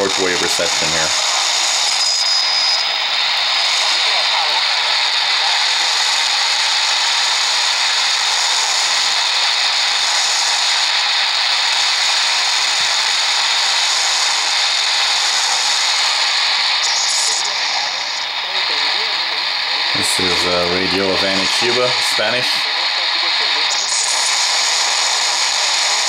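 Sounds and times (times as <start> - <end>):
radio broadcast breaking through: 0.0 - 26.0
radio static noise: 0.0 - 26.0.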